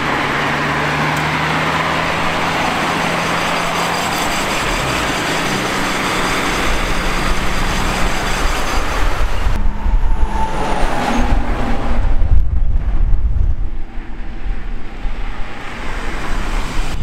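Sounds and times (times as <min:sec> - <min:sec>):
deep uneven engine rumble: 0:00.0 - 0:15.6
car road and wind noise: 0:00.0 - 0:17.0.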